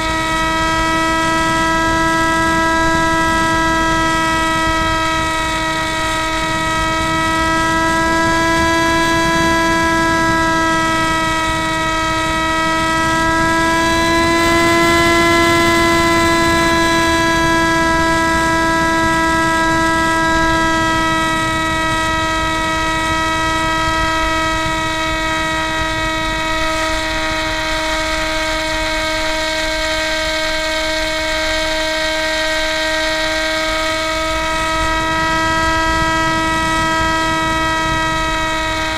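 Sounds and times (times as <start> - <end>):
electric motor and propeller whining: 0.0 - 38.9.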